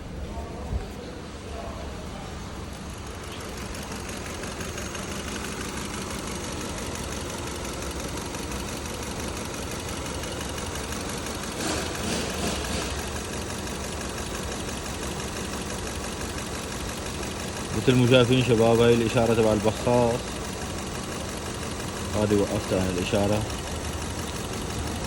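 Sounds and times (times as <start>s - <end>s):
car engine idling roughly: 1.2s - 25.0s.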